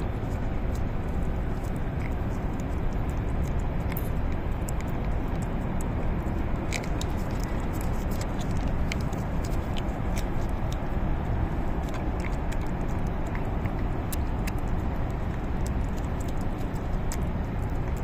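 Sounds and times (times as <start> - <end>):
cat licking wet smacking: 0.0 - 18.0
low rumbling noise: 0.0 - 18.0.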